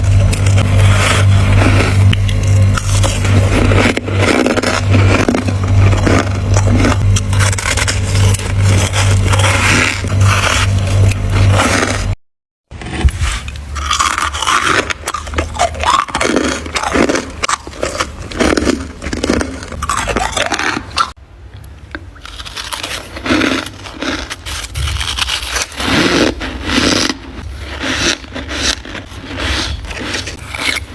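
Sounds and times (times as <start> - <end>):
frost being crunched and chewed: 0.0 - 12.2, 13.0 - 21.2, 22.2 - 30.9.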